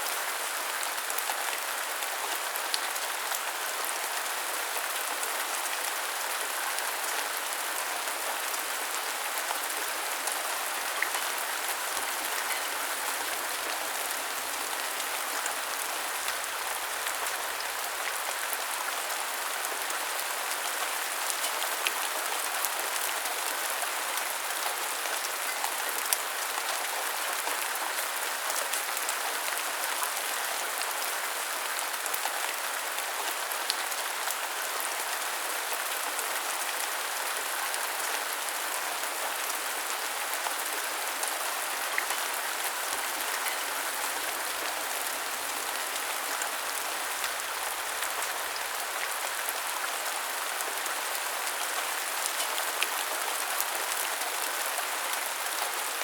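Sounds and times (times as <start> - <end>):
rain on hard surfaces: 0.0 - 56.0.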